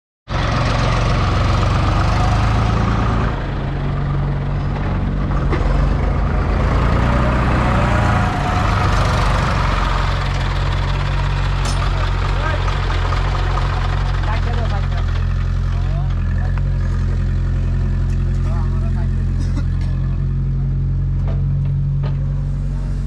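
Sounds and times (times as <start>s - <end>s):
diesel engine running: 0.3s - 23.0s.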